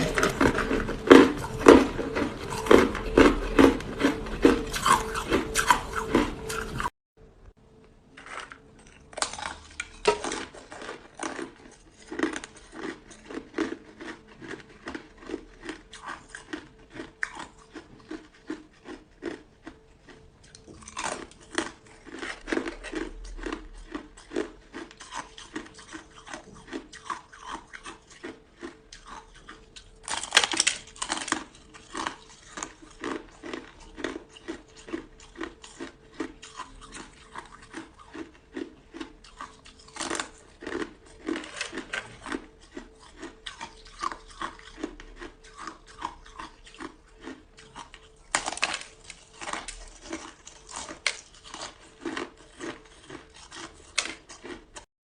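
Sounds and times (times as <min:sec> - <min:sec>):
ice crunching chewing: 0:00.0 - 0:06.9, 0:08.1 - 0:54.9.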